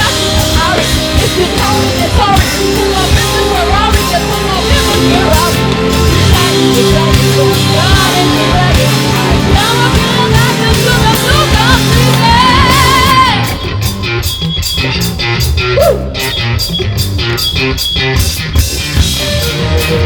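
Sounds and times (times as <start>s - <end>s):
lead guitar melody: 0.0s - 20.0s
live rock band playing: 0.0s - 20.0s
punchy drum beat: 0.0s - 20.0s.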